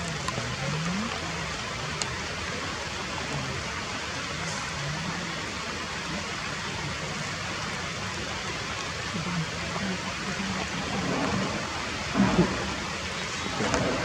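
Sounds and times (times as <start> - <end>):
steady rainfall: 0.0 - 14.0.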